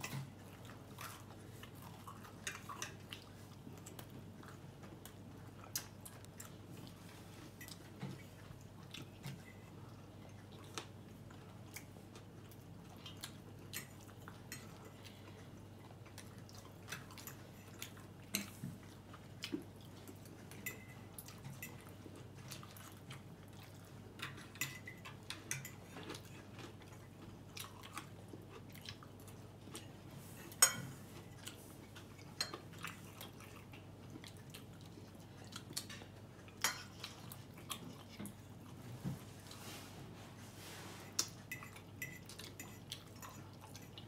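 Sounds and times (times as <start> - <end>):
chewing: 0.0 - 39.8, 41.0 - 44.0.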